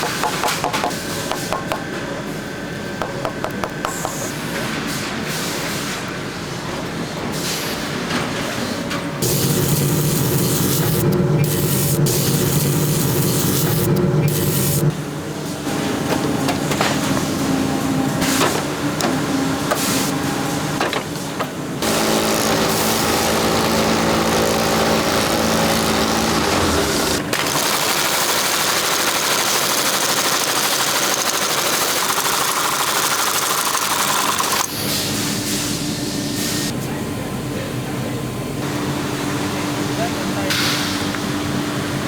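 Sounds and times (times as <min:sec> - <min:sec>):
workshop machinery running: 0:00.0 - 0:42.0.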